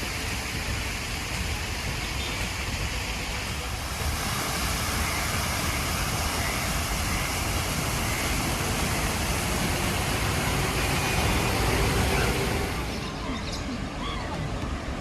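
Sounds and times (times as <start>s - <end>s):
passing city traffic: 0.0s - 15.0s.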